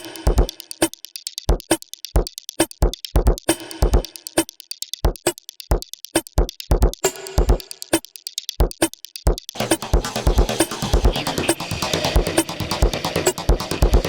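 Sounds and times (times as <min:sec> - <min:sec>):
electronic drum machine beat: 0:00.0 - 0:14.0
rapid hi-hat ticks: 0:00.0 - 0:14.0.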